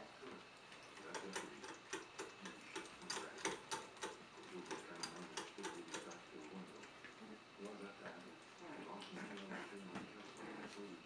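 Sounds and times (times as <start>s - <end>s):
puppies scuffling: 0.2s - 11.0s
puppies' claws clicking: 0.4s - 10.9s.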